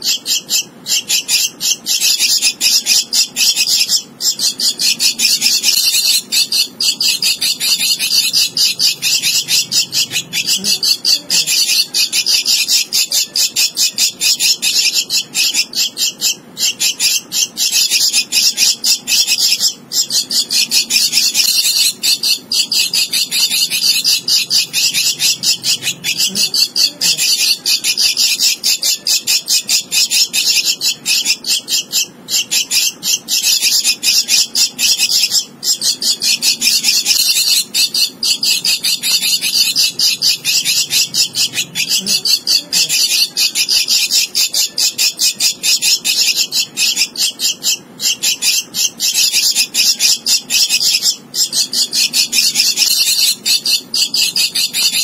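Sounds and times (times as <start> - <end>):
bird chick begging calls: 0.0 - 55.0.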